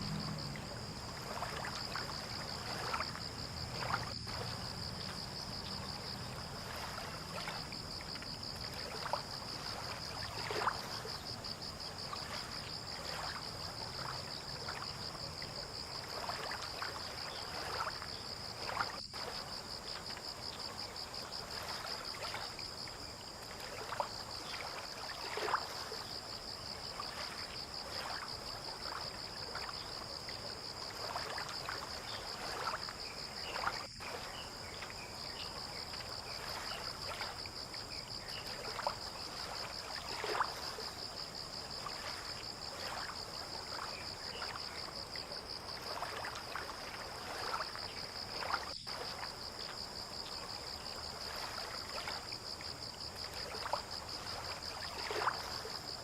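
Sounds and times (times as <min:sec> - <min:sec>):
water lapping and trickling: 0:00.0 - 0:56.0.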